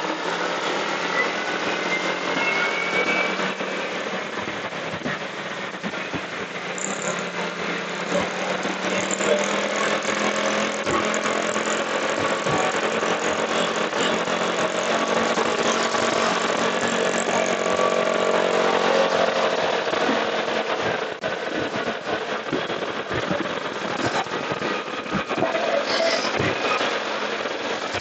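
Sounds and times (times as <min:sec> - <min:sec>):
motorcycle engine running: 0:00.0 - 0:28.0
road and traffic noise: 0:00.0 - 0:28.0.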